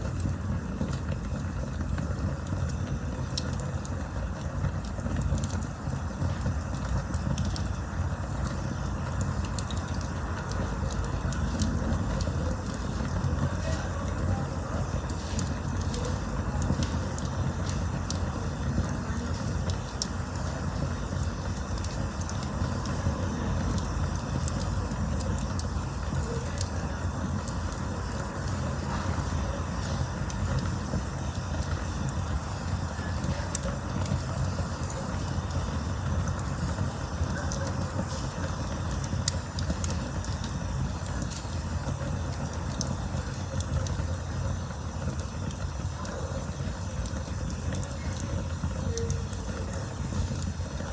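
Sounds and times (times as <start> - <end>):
campfire low rumble: 0.0 - 50.9
wood crackling and popping: 0.0 - 50.9.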